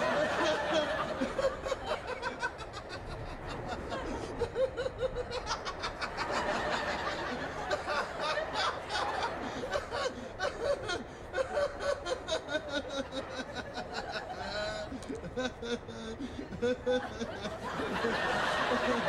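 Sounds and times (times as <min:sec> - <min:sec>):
studio audience laughing: 0:00.0 - 0:19.0.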